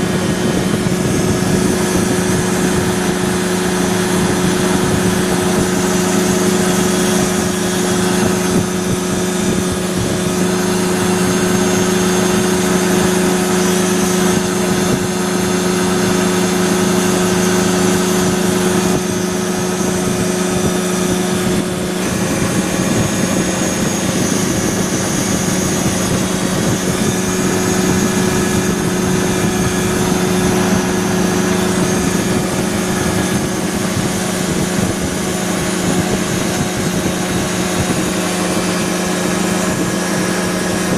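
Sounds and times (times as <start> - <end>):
two-stroke engine and propeller droning: 0.0 - 40.9
wind rushing: 0.0 - 40.9.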